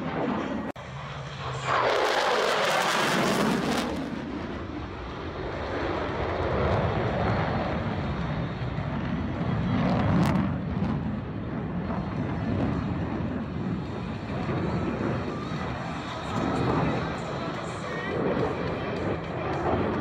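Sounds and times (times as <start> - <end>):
aircraft engine rumble: 0.0 - 20.0.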